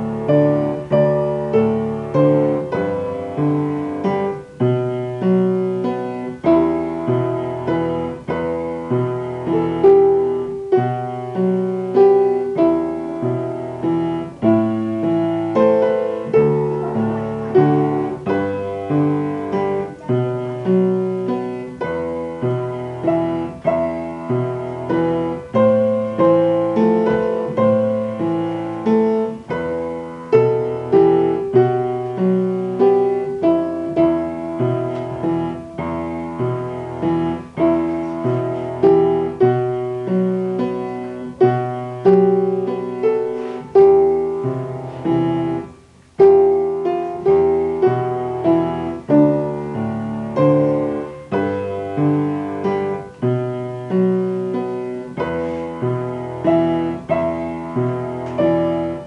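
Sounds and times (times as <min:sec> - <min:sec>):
upright piano piece: 0:00.0 - 0:59.0.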